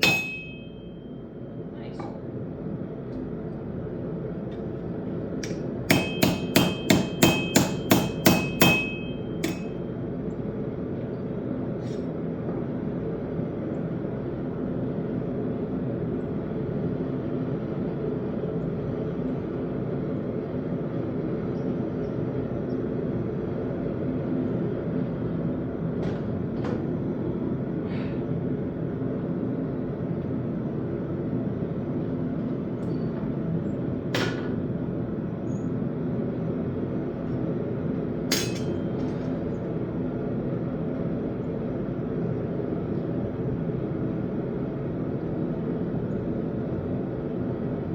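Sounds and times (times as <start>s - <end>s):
steady mechanical drone: 0.0s - 47.9s.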